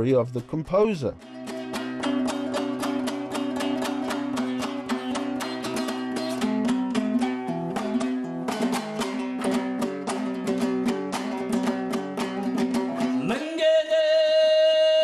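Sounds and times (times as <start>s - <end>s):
lute strummed folk melody: 0.0s - 15.0s.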